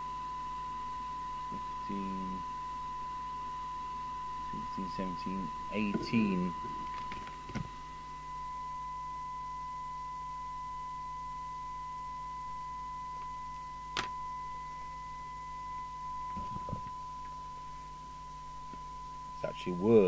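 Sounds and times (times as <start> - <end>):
steady test tone: 0.0 - 20.0.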